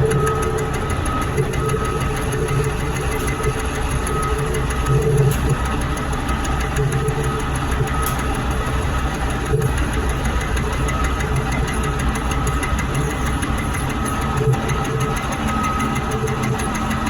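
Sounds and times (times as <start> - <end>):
metal lathe running: 0.0 - 17.0.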